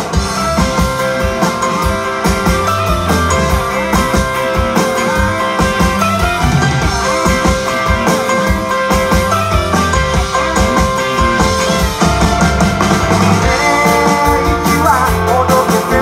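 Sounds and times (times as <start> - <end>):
bass: 0.0 - 16.0
drum kit steady beat: 0.0 - 16.0
electric guitar: 0.0 - 16.0
electric piano: 0.0 - 16.0.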